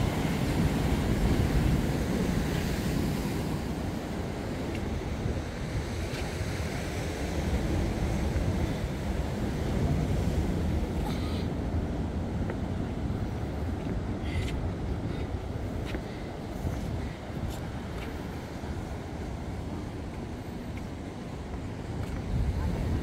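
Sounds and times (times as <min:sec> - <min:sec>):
surf washing against rocks: 0:00.0 - 0:23.0
wind buffeting microphone: 0:00.0 - 0:23.0.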